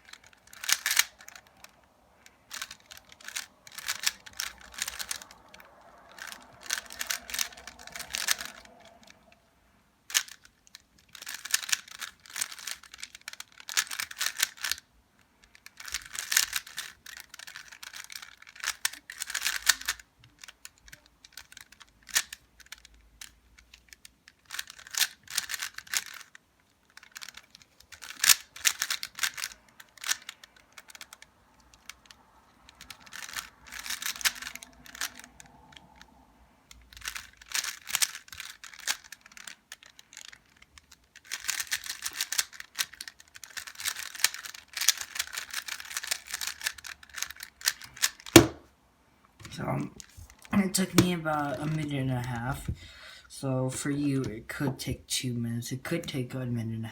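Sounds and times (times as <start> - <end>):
puzzle cube plastic clicking: 0.0 - 9.5, 10.1 - 48.7, 49.4 - 52.8.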